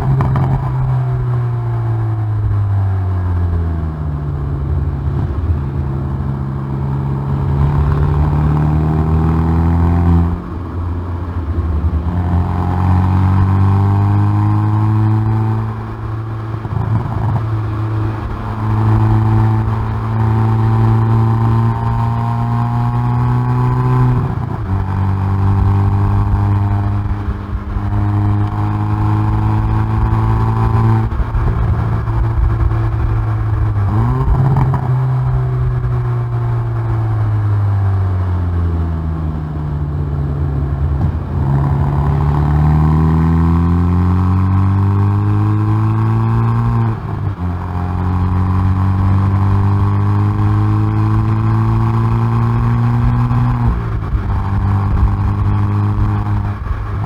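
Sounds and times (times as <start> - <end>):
car engine and exhaust accelerating: 0.0 - 57.0.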